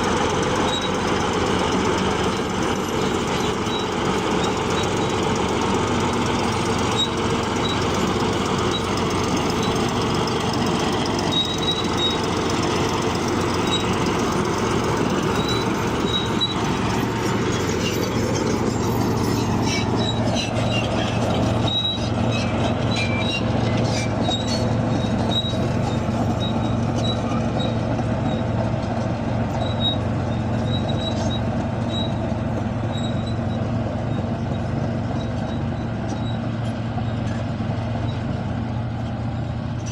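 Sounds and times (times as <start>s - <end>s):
bulldozer diesel engine running: 0.0s - 39.9s
steel tracks squeaking: 0.0s - 39.9s.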